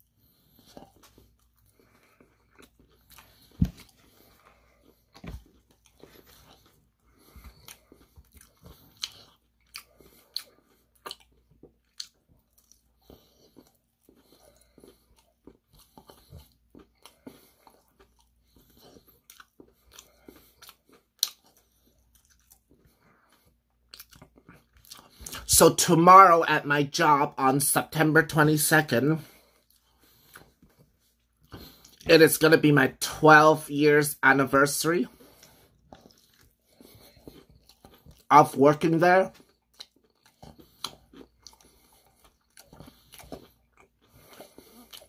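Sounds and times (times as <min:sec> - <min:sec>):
crunchy chewing of fried chicken: 0:00.0 - 0:45.0.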